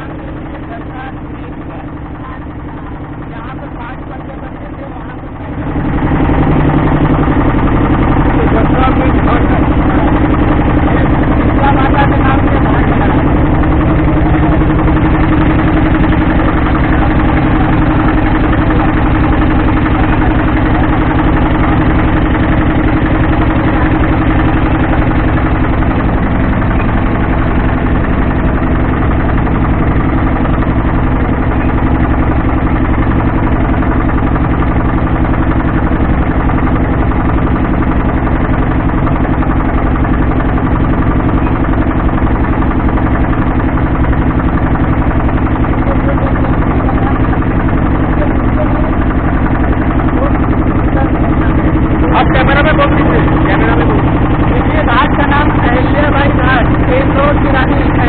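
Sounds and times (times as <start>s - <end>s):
motorboat engine droning: 0.0s - 58.0s.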